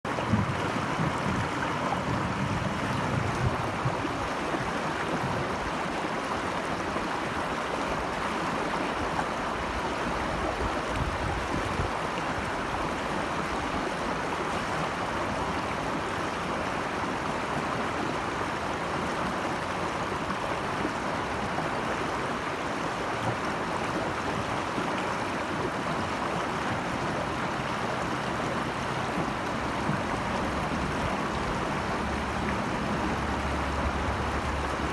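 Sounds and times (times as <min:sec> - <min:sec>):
flowing water: 0:00.0 - 0:34.9.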